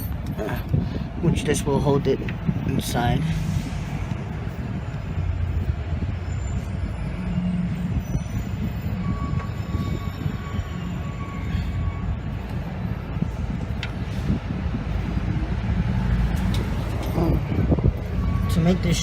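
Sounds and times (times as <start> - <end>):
low vehicle rumble: 0.0 - 19.0.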